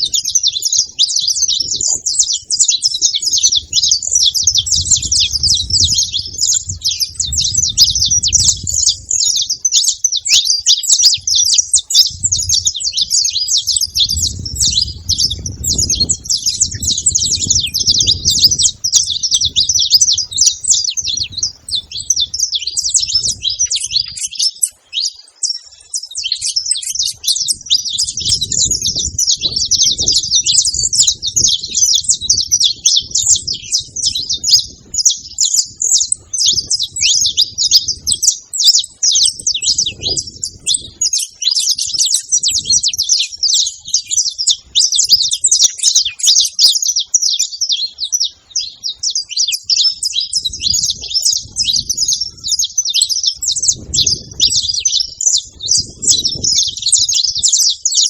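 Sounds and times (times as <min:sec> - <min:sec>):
finches chirping and trilling: 0:00.0 - 0:58.0.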